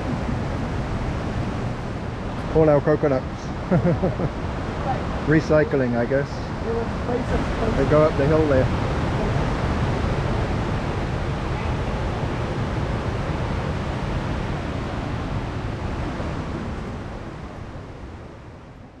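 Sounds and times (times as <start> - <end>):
waterfall roaring: 0.0 - 18.9.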